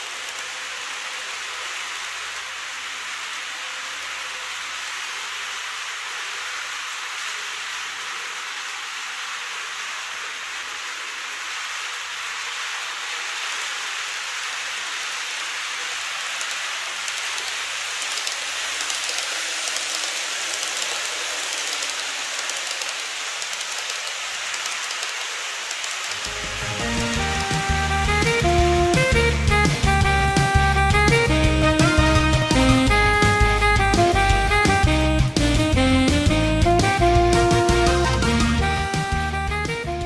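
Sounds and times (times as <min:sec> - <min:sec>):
model train whirring: 0:00.0 - 0:40.0.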